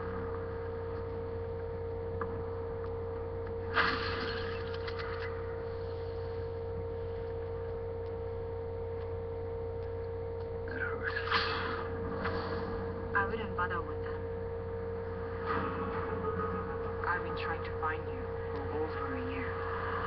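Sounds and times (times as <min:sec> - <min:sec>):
trailer music hum with held tone: 0:00.0 - 0:20.0.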